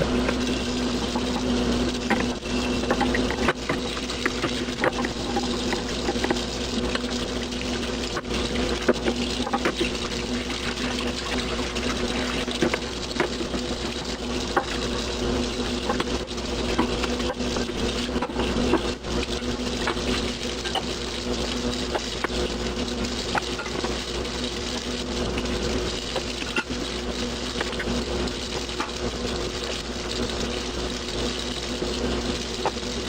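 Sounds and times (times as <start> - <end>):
kitchen tap running: 0.0 - 33.0.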